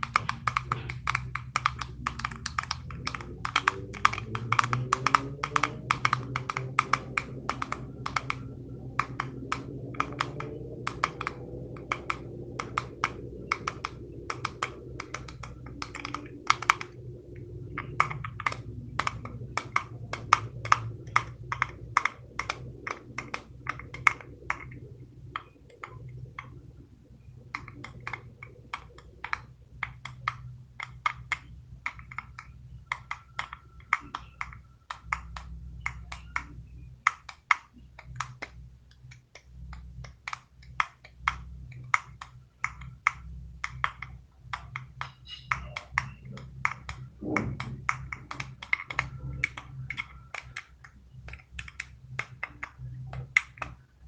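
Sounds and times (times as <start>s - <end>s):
fidget toys clicking: 0.0s - 54.0s.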